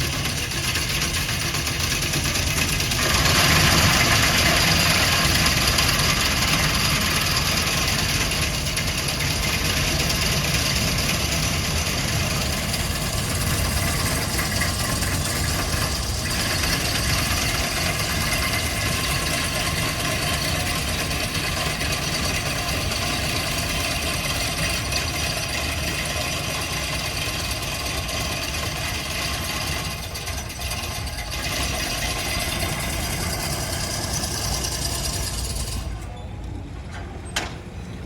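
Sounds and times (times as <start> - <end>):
steam hissing: 0.0 - 36.0
mechanical clanking and pounding: 0.0 - 36.1, 36.8 - 38.0.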